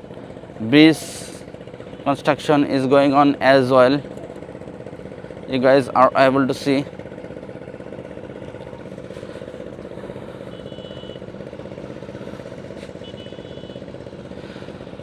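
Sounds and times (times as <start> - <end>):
engine drone with flutter: 0.0 - 15.0.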